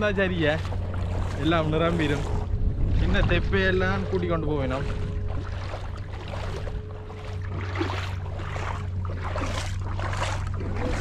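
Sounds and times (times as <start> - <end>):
bare feet splashing in water: 0.0 - 11.0
wind rumble on microphone: 0.0 - 11.0.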